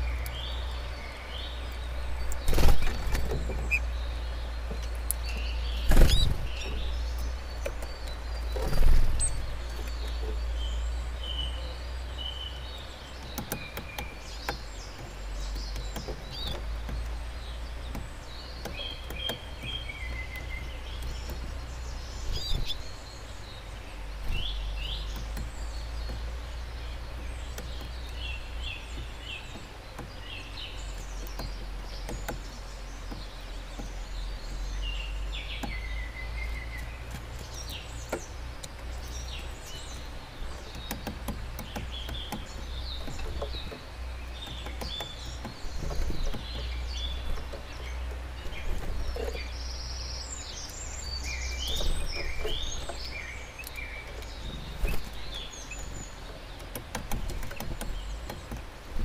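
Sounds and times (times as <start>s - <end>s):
low background rumble: 0.0s - 59.0s
small songbirds chirping: 0.0s - 59.0s
faint clicks: 0.1s - 10.6s, 12.1s - 59.0s.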